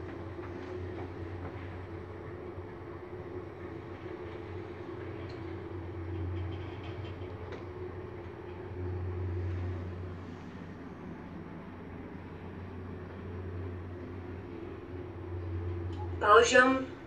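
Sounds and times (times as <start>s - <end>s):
lift low hum: 0.0s - 17.0s.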